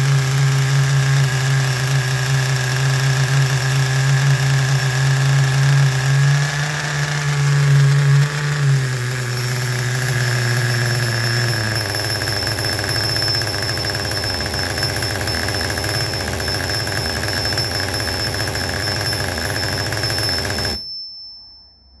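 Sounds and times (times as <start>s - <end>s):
nitro engine running with whine: 0.0s - 20.8s.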